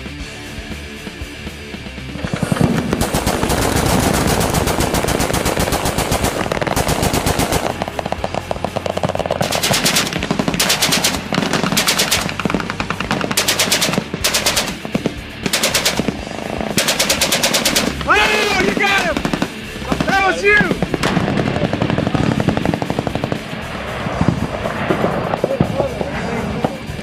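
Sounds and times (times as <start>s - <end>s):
machine-gun fire: 2.2s - 26.7s.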